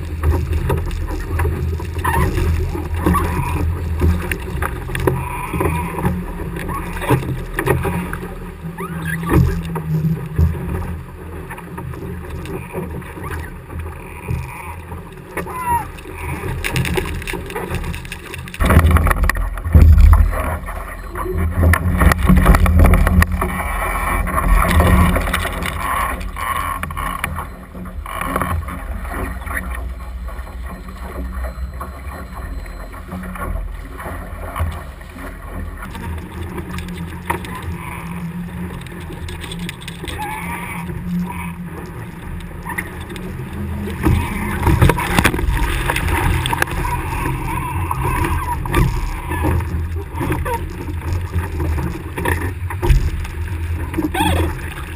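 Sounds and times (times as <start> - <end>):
water splashing against boat hull: 0.0 - 54.9.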